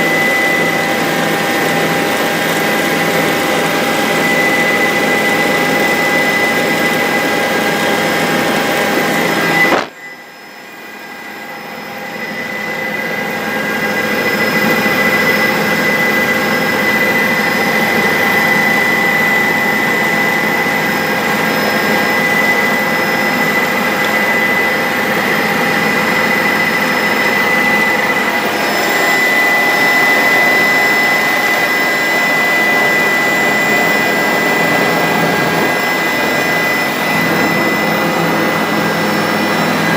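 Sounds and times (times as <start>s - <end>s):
helicopter turbine and rotors: 0.0s - 39.9s.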